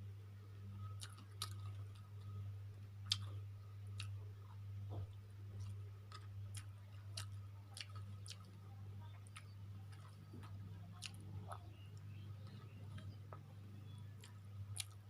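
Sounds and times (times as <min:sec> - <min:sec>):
steady low hum: 0:00.0 - 0:15.0
person chewing food: 0:00.9 - 0:02.4, 0:03.0 - 0:13.4, 0:14.1 - 0:15.0.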